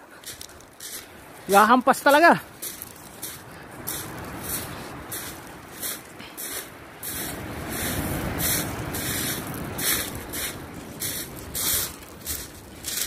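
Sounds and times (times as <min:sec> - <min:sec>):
footsteps crunching on pebbles: 0:00.1 - 0:13.0.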